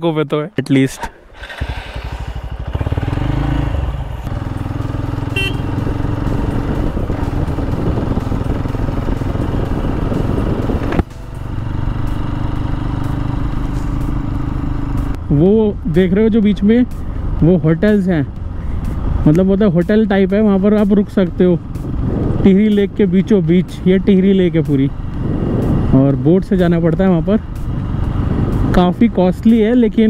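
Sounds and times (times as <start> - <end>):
motorcycle engine running: 1.4 - 30.0.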